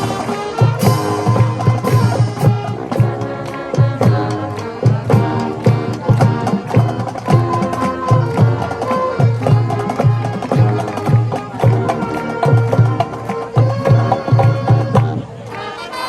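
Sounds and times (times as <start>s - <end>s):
steady drum beat: 0.0s - 15.4s
brass holding notes: 0.0s - 16.0s.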